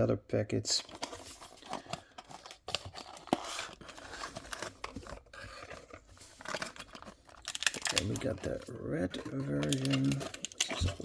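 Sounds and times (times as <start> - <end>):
packaging rustling and scraping: 0.8 - 11.0.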